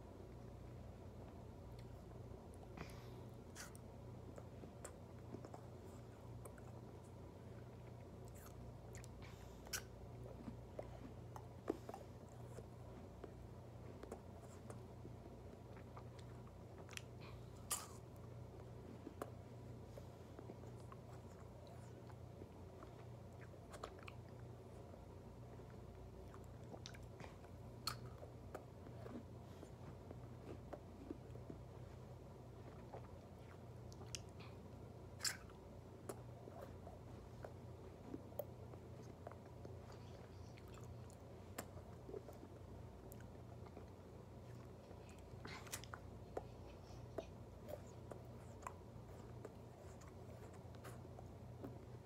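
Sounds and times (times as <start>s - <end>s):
low steady hum: 0.0s - 52.0s
wet mouth sounds eating: 3.4s - 19.4s, 25.6s - 52.0s.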